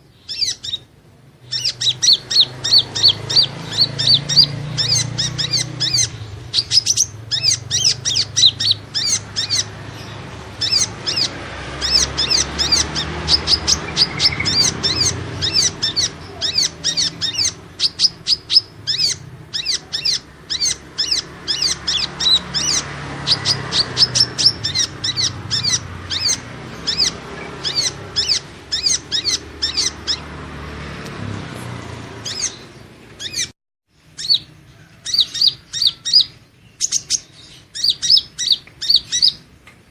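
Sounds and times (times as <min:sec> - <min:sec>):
bird twittering chirps: 0:00.0 - 0:30.4, 0:32.1 - 0:39.6.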